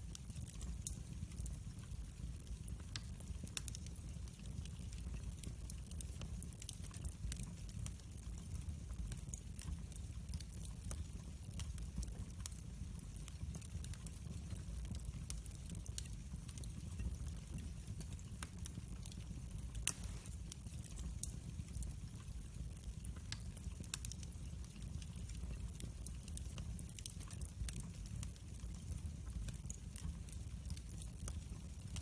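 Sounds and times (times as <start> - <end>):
low fire rumble: 0.0 - 32.0
wood fire crackling and popping: 0.0 - 32.0.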